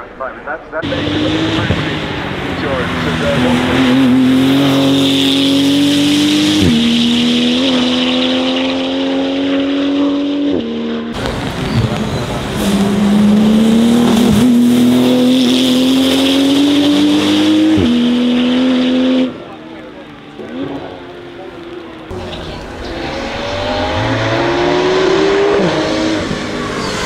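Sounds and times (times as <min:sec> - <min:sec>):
car engine accelerating hard: 0:00.8 - 0:27.0.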